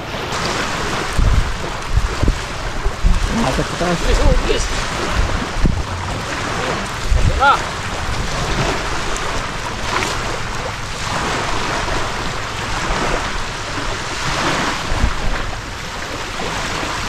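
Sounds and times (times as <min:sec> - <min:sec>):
sea waves washing on shore: 0:00.0 - 0:17.0
wind rumbling on microphone: 0:00.0 - 0:17.0.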